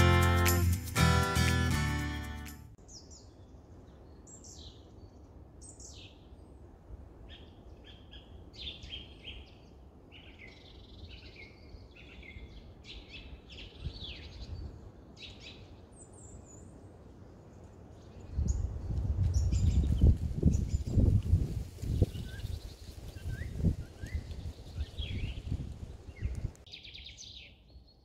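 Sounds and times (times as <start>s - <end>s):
songbirds chirping: 2.8s - 28.0s.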